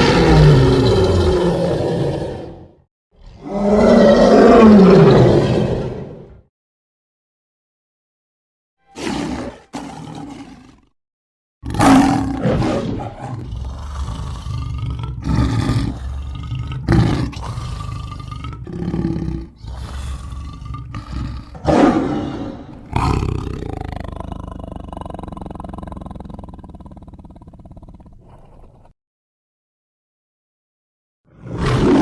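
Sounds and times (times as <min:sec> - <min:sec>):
lion roars: 0:00.0 - 0:06.4, 0:09.0 - 0:10.9, 0:11.6 - 0:28.9, 0:31.3 - 0:32.0
lion growls: 0:00.0 - 0:06.5, 0:09.0 - 0:10.9, 0:11.6 - 0:29.0, 0:31.3 - 0:32.0.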